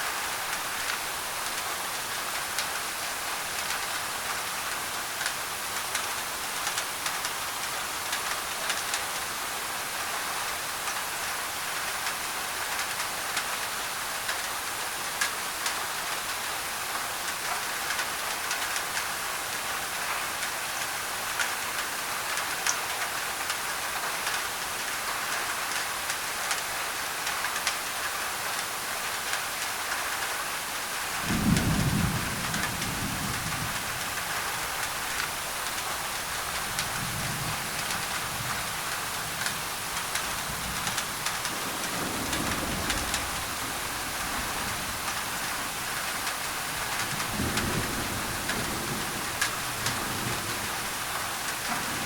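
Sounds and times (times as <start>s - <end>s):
rain on a tin roof: 0.0s - 52.0s.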